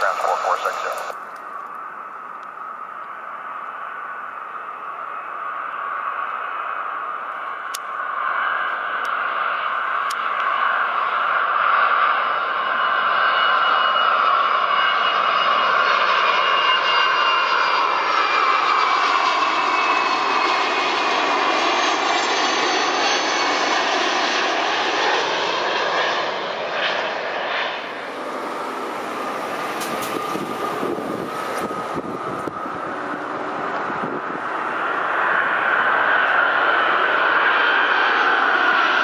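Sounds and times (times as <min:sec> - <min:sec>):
jet passing overhead: 0:00.0 - 0:39.0.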